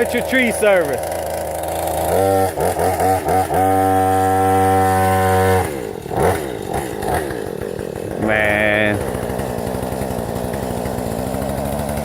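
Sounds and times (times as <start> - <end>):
chainsaw engine revving: 0.0 - 12.0.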